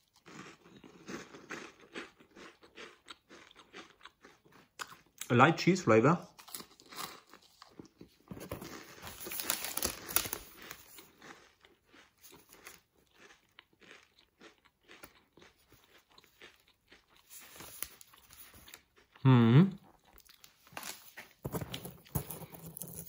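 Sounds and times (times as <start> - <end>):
crunchy pastry chewing: 0.0 - 5.2, 6.3 - 23.0.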